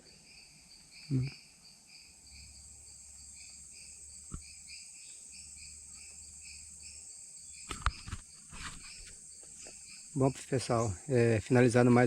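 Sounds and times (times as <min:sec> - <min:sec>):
insects buzzing: 0:00.0 - 0:12.0
insects chirping: 0:00.0 - 0:12.0.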